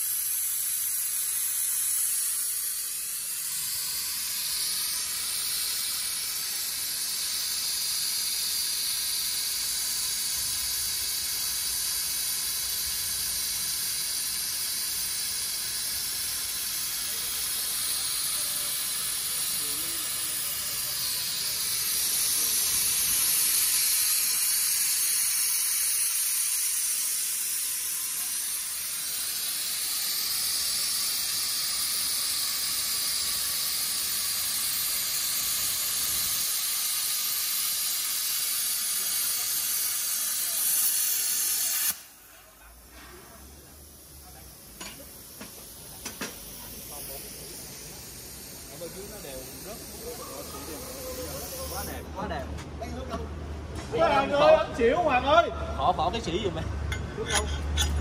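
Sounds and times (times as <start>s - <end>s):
plasma cutter hissing: 0.0s - 52.4s.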